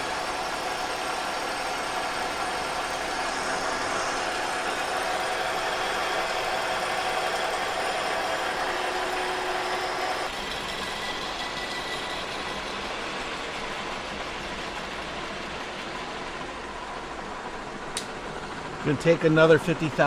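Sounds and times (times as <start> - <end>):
milling machine cutting metal: 0.0 - 17.3
machine running quietly: 0.0 - 20.0.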